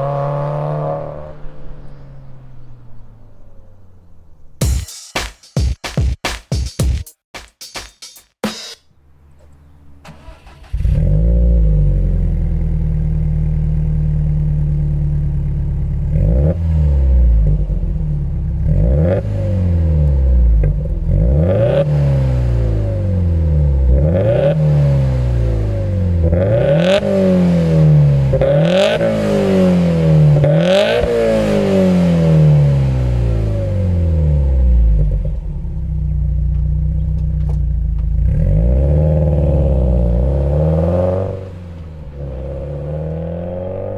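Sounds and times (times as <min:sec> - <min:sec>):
car engine idling and revving: 0:00.0 - 0:04.6, 0:08.9 - 0:43.9.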